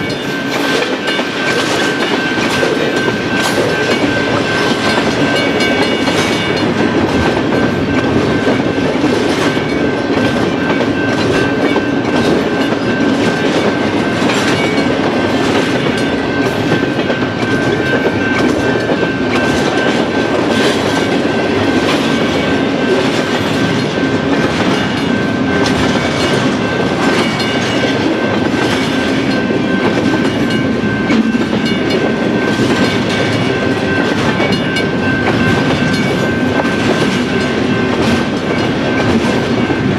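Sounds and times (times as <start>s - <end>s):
train wheels rumbling on rail: 0.0s - 39.9s
wheels clacking on rail joints: 0.0s - 39.9s.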